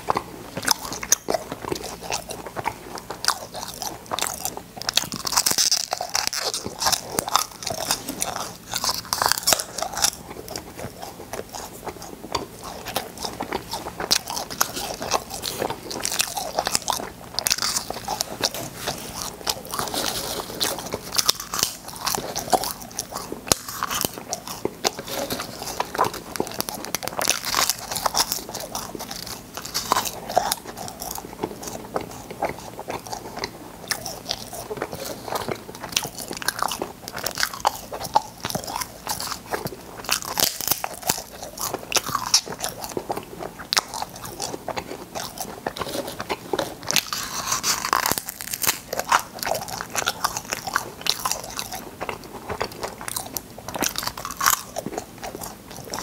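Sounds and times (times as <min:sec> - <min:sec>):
crunching hard candy: 0:00.0 - 0:56.0.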